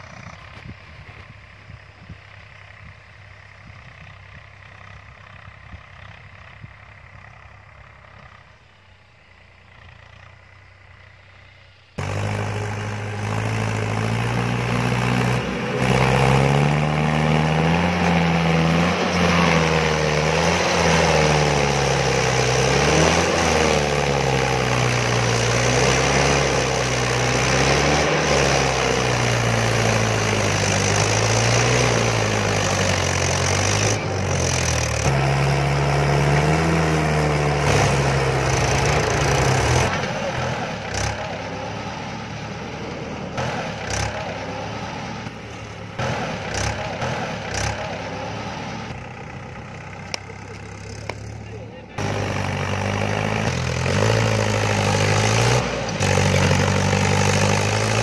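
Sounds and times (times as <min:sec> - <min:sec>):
tractor diesel engine labouring: 0:00.0 - 0:58.0.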